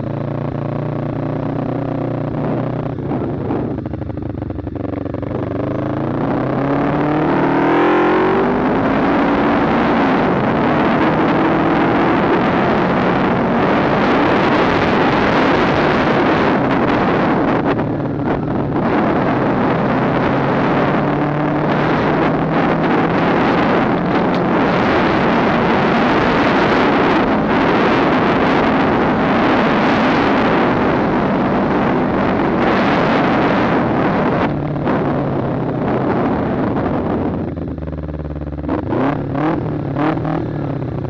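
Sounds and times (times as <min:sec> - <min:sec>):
motorcycle engine hum: 0:00.0 - 0:41.0
wind buffeting microphone: 0:00.0 - 0:41.0.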